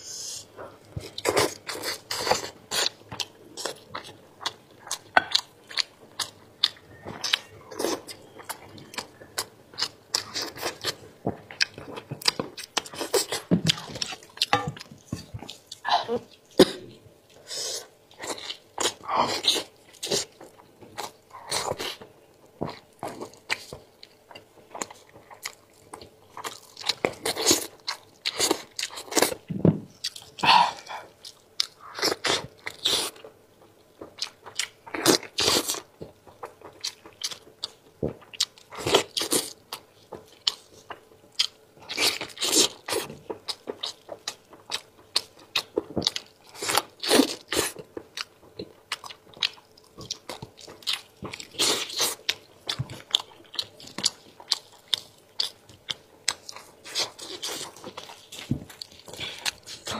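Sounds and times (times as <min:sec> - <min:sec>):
chewing and wet crunching: 0:00.7 - 0:16.6, 0:17.3 - 0:59.9.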